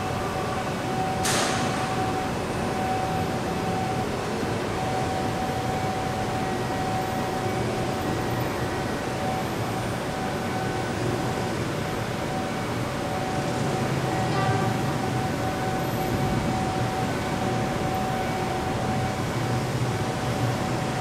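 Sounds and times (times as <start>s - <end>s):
monorail train humming and whining: 0.0s - 21.0s.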